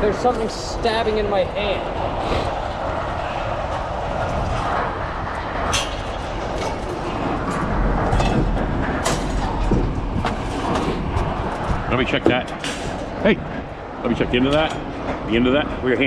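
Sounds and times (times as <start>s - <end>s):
mechanical rumble: 0.0s - 16.0s.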